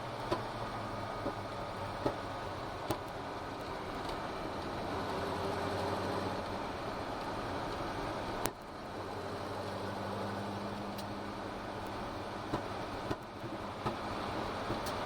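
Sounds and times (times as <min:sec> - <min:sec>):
car engine running steadily: 0:00.0 - 0:15.0.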